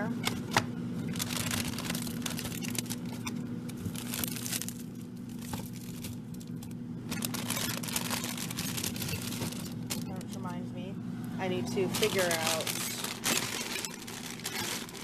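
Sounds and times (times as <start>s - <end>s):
plastic packaging crinkling: 1.0s - 10.4s, 11.9s - 15.0s.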